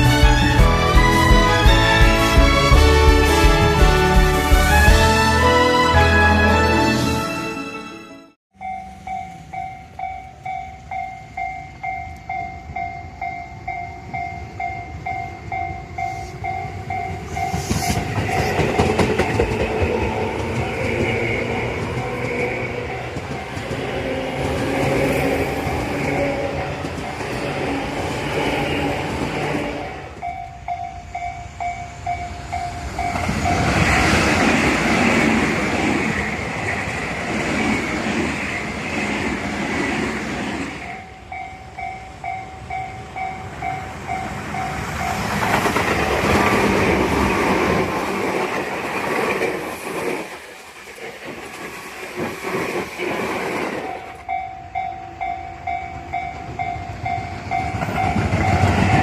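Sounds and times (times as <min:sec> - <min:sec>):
electric trains passing: 0:00.0 - 0:59.0.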